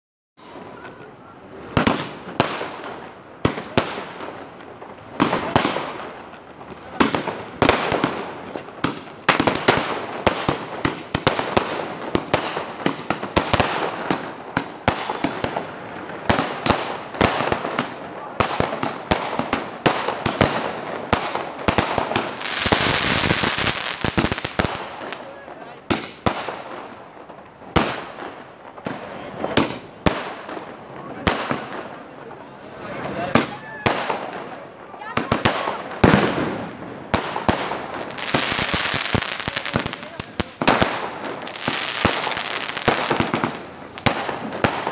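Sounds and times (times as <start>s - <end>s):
firecrackers banging and crackling: 0.4s - 44.9s
fireworks fountains hissing: 0.4s - 44.9s.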